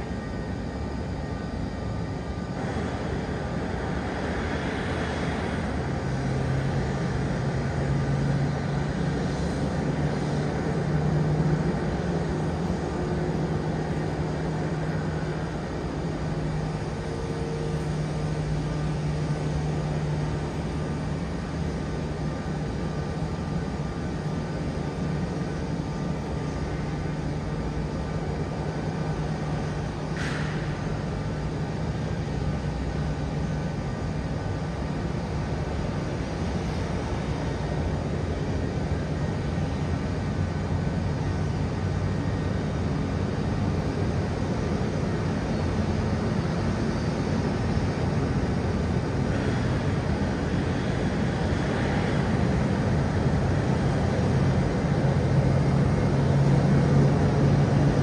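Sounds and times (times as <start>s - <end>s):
low even hum: 0.0s - 58.0s
jet airliner and tug rumble: 0.1s - 58.0s.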